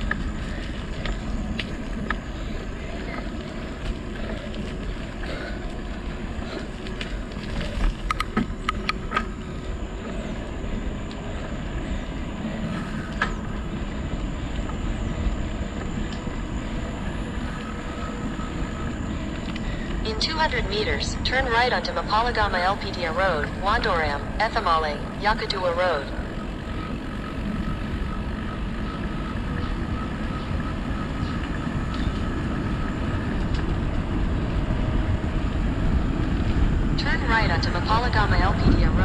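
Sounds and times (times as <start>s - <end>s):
vehicle engine tyre and wind noise: 0.0s - 39.0s.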